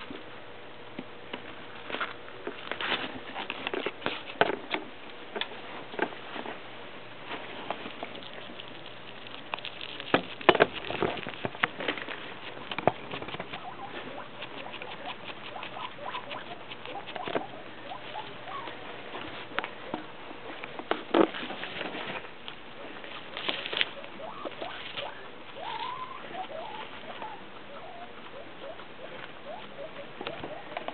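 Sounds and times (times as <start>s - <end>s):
rustling and crunching of hay: 5.5s - 30.9s.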